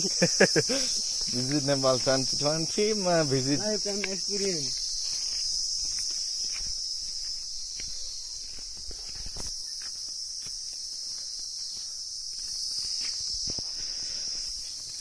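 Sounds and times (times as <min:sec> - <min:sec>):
insects calling: 0:00.0 - 0:15.0
footsteps crunching on stony track: 0:00.7 - 0:15.0.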